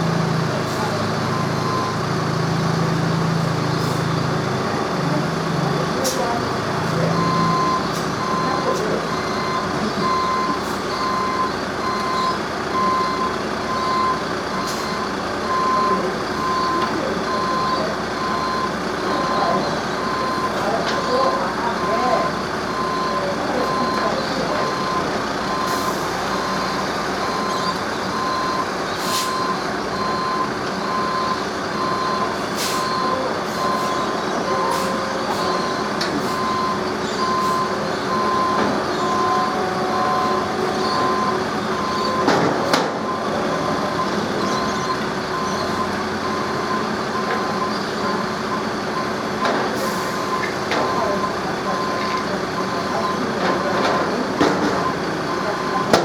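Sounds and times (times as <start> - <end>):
reversing alarm beeping: 0.0 - 4.3, 5.0 - 56.0
heavy vehicle engine running: 0.0 - 56.0.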